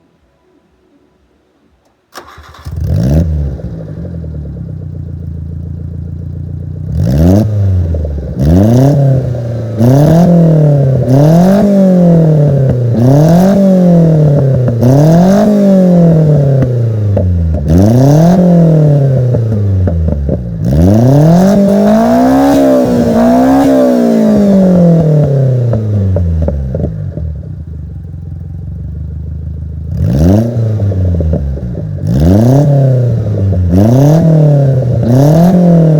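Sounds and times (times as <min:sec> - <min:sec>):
truck engine idling and revving: 0:02.2 - 0:35.9.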